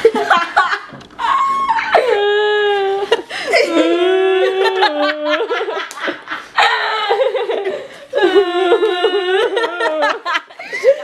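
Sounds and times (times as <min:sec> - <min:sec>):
women laughing: 0:00.0 - 0:11.0.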